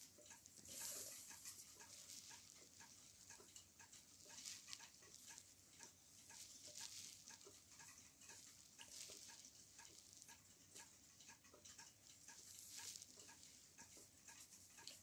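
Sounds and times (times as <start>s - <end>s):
mechanism ticking: 0.0s - 15.0s.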